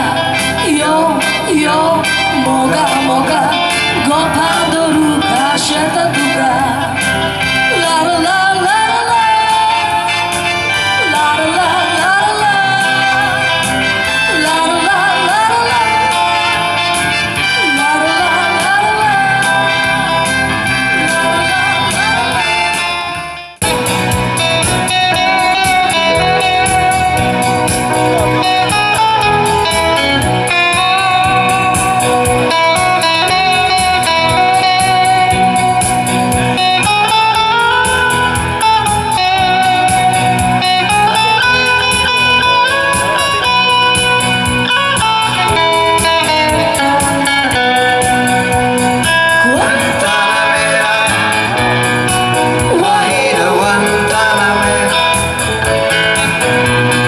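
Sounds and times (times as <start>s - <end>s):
electric guitar lead: 0.0s - 57.0s
keyboards: 0.0s - 57.0s.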